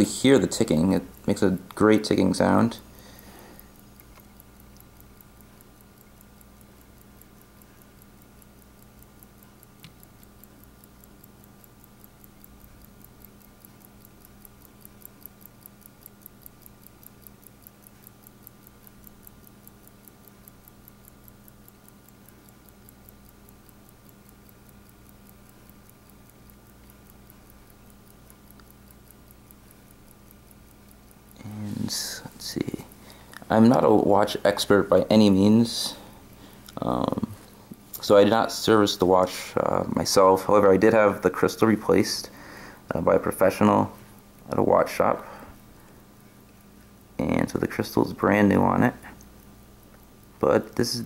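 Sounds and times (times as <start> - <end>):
fast watch ticking: 0.0 - 51.0.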